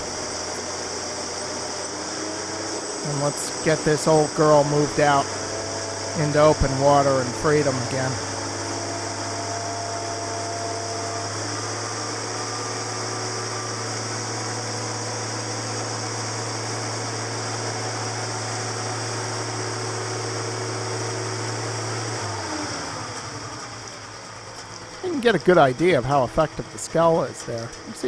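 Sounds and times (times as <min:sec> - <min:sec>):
engine and hydraulics humming: 0:00.0 - 0:28.0.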